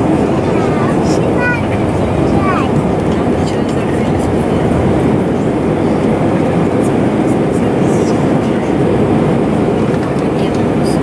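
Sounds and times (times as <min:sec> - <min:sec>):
jet engines at climb power: 0:00.0 - 0:11.0.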